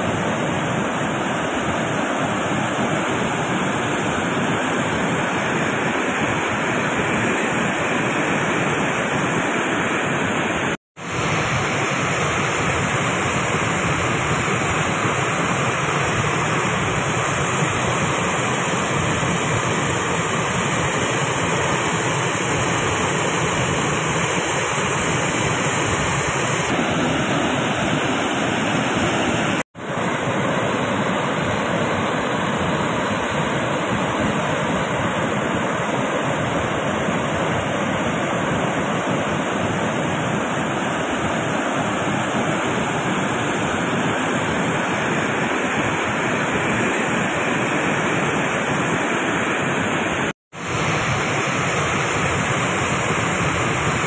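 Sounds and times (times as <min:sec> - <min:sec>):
water rushing through spillway: 0:00.0 - 0:54.0.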